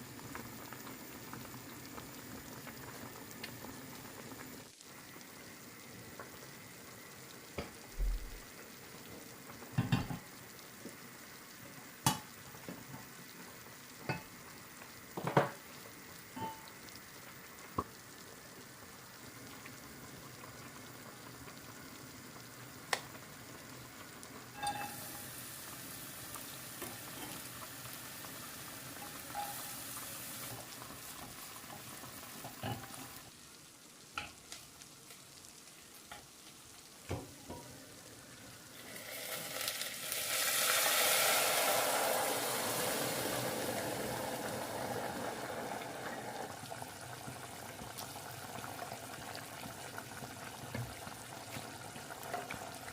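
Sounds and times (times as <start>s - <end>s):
food sizzling in a pan: 0.0s - 52.9s.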